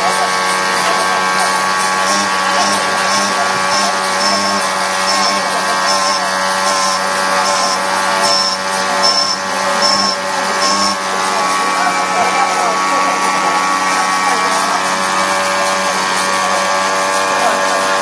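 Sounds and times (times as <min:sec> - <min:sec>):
key-making machine whine: 0:00.0 - 0:18.0
short high-pitched bursts: 0:00.0 - 0:18.0.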